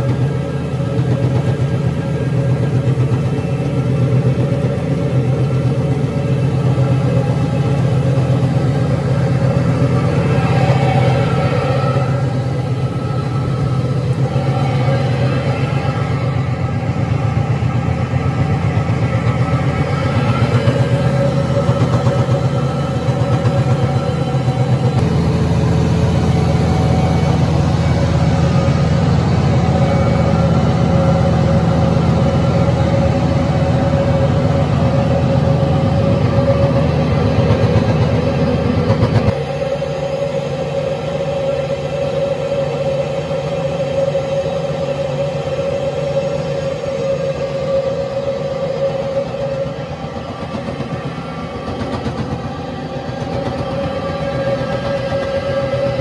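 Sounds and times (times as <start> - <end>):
roller mill humming: 0.0 - 56.0
tractor engine drone: 0.0 - 56.0.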